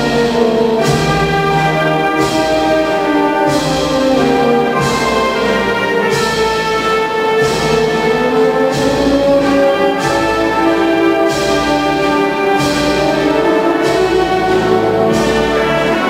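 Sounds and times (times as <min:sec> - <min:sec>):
wind band playing march: 0:00.0 - 0:16.0.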